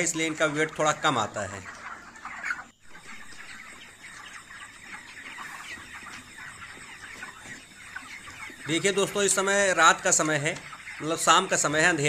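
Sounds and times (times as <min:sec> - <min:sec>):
chickens clucking and chirping: 0:00.0 - 0:12.0.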